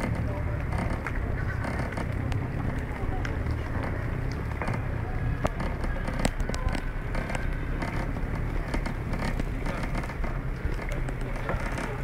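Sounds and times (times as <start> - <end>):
bicycle tyres rumbling on paving: 0.0 - 12.0
small clicks and rattles: 0.0 - 12.0.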